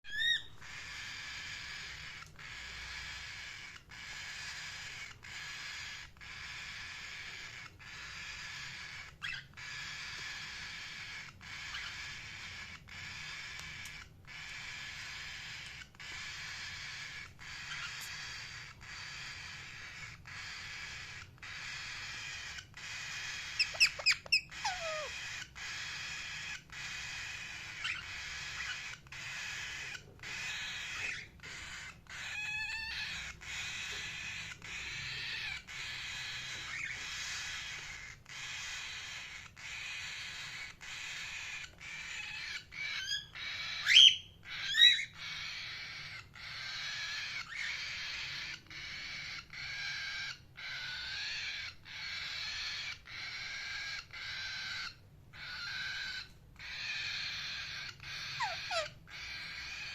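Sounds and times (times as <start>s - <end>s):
parrot chirping and calling: 0.1s - 59.9s.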